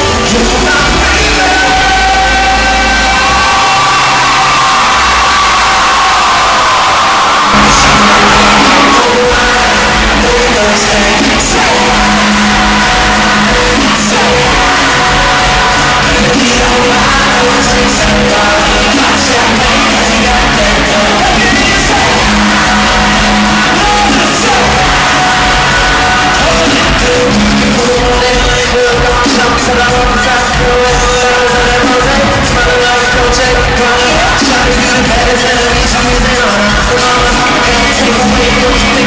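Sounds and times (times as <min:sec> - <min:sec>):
man singing: 0:00.0 - 0:05.5, 0:07.5 - 0:39.0
live band with keyboards and drums: 0:00.0 - 0:39.0.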